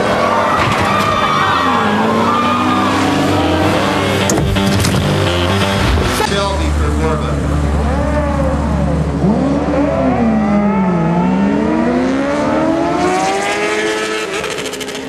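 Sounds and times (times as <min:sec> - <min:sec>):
motorcycle engines accelerating: 0:00.0 - 0:15.0.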